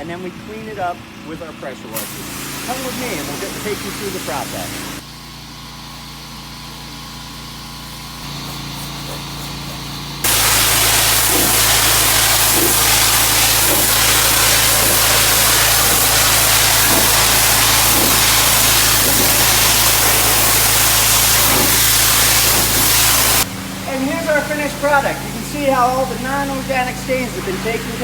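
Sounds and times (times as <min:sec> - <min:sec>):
pressure washer water jet hissing: 0:00.0 - 0:28.0
pump engine humming: 0:00.0 - 0:28.0.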